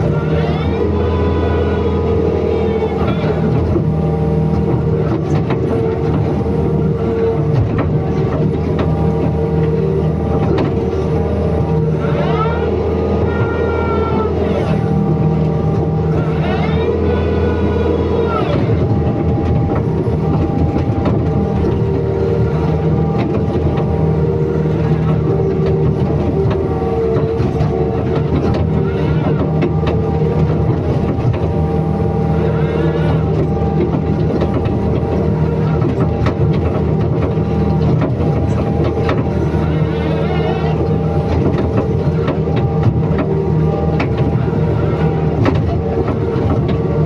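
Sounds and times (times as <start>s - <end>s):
excavator diesel engine running: 0.0s - 47.0s
wavering high whine: 0.0s - 47.0s.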